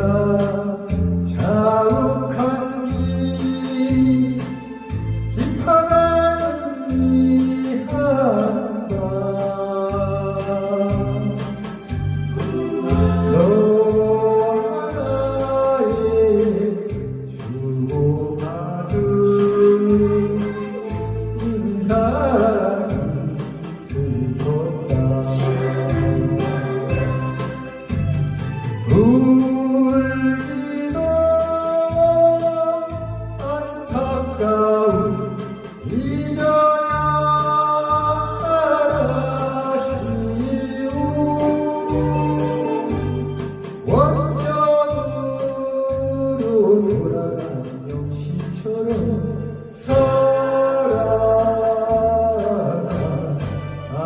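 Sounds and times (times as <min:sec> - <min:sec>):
singer holding sliding notes: 0:05.4 - 0:54.0
steady bass beat: 0:08.9 - 0:53.9.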